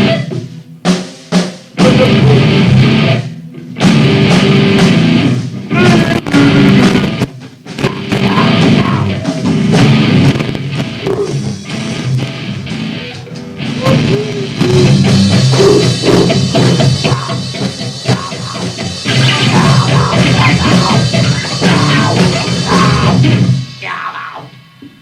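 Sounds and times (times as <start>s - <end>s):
distorted electric guitar: 0.0s - 25.0s
drums: 0.0s - 25.0s.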